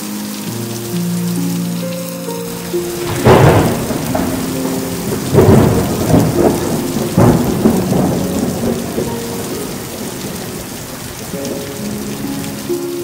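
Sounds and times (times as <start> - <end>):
heavy rain pouring: 0.0 - 13.0
thunder rumbling: 2.3 - 13.0.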